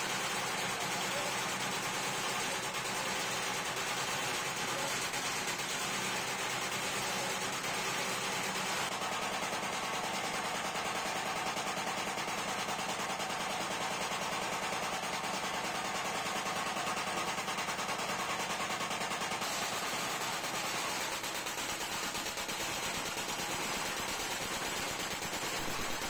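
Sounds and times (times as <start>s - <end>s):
punching machine hammering metal: 0.0s - 26.0s.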